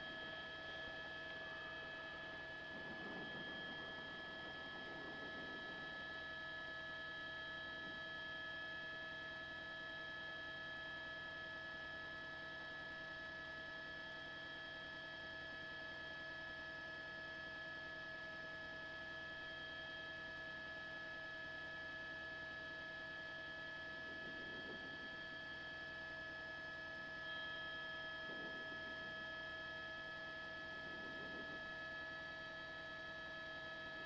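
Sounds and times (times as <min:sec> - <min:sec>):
faint steady whine: 0:00.0 - 0:34.0.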